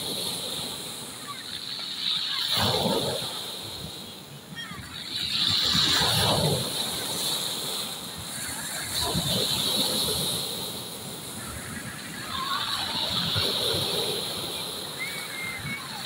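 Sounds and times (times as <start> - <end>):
waves breaking on pebble beach: 0.0 - 16.0.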